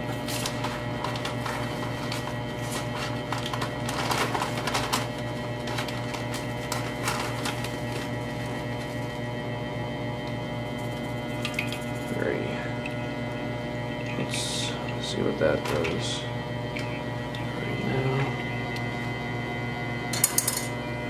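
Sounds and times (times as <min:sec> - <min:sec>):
electric mixer humming: 0:00.0 - 0:21.0.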